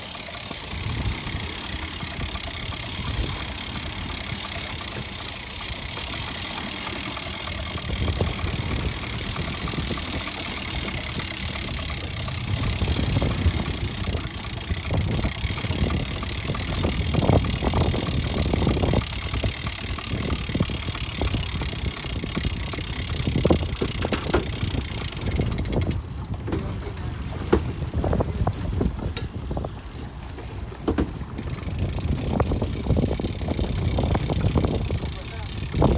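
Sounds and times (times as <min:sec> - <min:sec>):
boat engine running: 0:00.0 - 0:35.9
wind buffeting microphone: 0:00.0 - 0:35.9.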